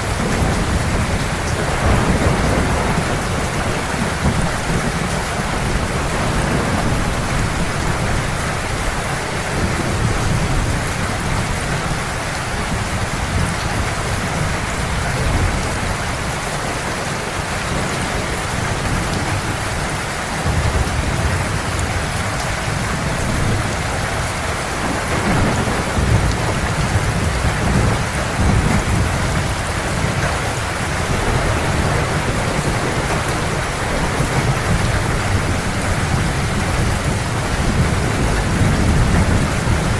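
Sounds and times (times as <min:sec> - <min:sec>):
low rumble of thunder: 0:00.0 - 0:16.9, 0:17.6 - 0:39.9
heavy rain falling: 0:00.0 - 0:39.9.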